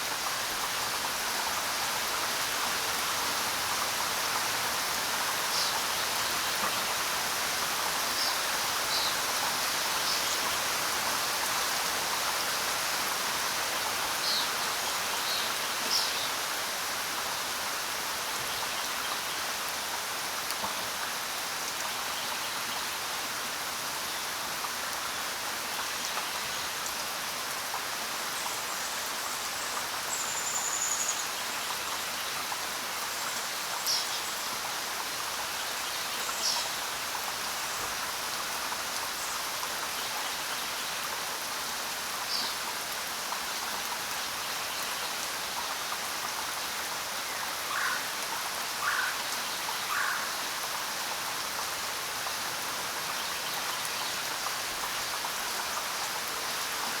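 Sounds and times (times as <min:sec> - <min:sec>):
rain pattering on ground: 0:00.0 - 0:57.0.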